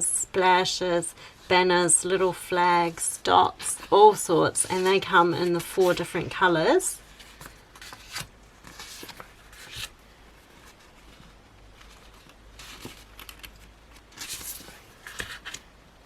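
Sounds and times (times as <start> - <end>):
sticker sheets rustling: 2.6 - 15.7.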